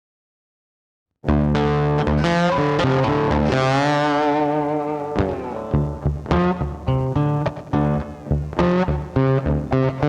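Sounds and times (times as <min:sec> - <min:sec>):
guitar tune with bass: 0:01.2 - 0:10.0.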